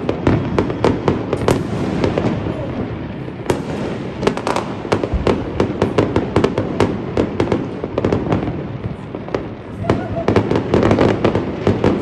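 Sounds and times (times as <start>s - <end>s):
fireworks bangs and cracks: 0.0s - 12.0s
fireworks rumble: 0.0s - 12.0s.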